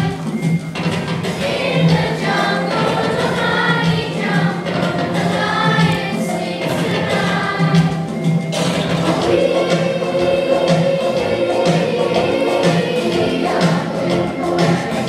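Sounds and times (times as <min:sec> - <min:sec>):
children's choir singing: 0:00.0 - 0:15.0
musical accompaniment: 0:00.0 - 0:15.0.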